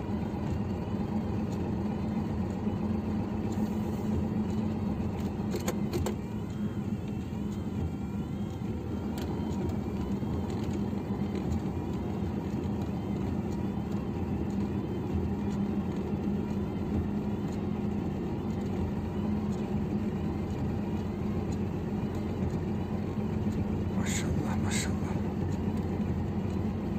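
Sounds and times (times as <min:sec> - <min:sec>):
truck engine and road noise: 0:00.0 - 0:26.9.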